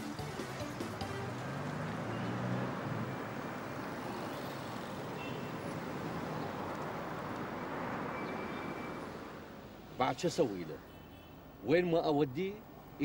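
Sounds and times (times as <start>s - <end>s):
passing vehicles: 0.0s - 13.0s.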